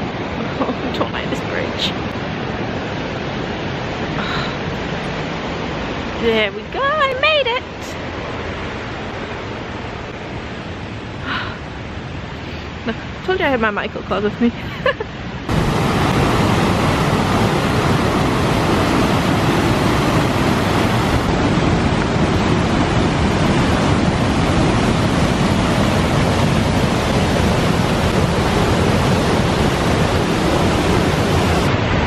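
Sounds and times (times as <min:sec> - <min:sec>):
waterfall rushing over rock: 0:00.0 - 0:13.2, 0:15.2 - 0:32.0.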